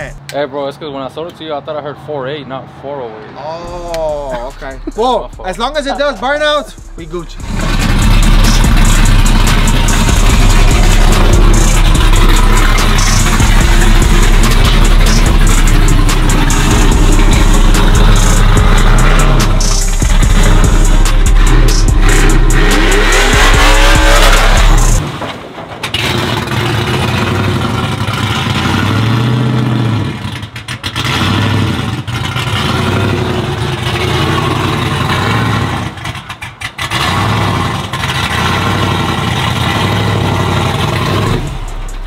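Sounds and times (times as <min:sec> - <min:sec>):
truck engine revving hard: 0:04.4 - 0:25.2, 0:25.8 - 0:42.0
tyres spinning in a burnout: 0:07.4 - 0:42.0.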